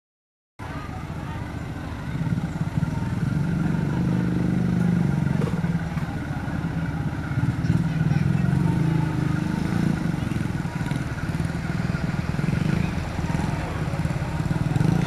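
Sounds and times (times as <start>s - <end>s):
locomotive engine drone: 0.6s - 15.0s.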